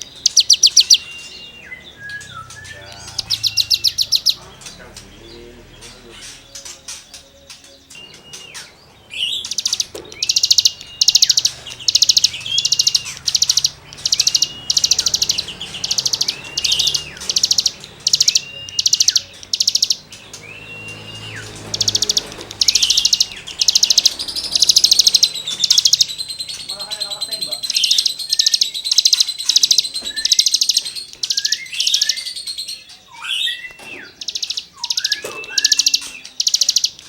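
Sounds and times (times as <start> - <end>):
songbird singing scratchy phrases: 0.0 - 37.0.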